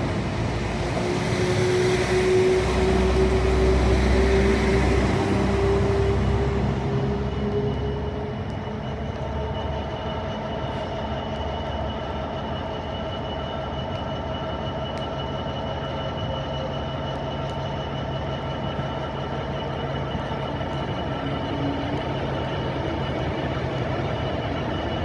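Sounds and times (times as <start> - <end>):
high whine: 0.0 - 25.0
train low rumble: 0.0 - 25.0.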